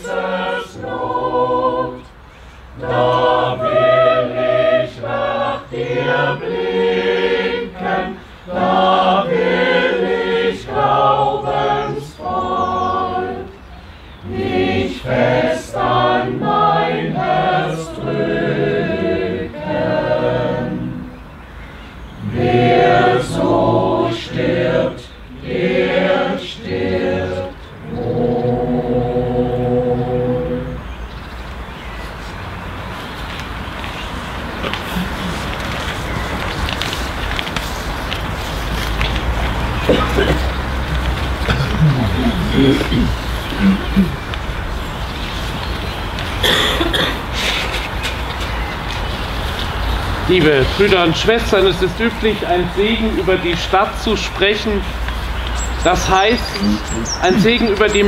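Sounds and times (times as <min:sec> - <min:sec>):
choir singing unaccompanied: 0:00.0 - 0:31.1, 0:38.6 - 0:47.1, 0:49.4 - 0:58.0.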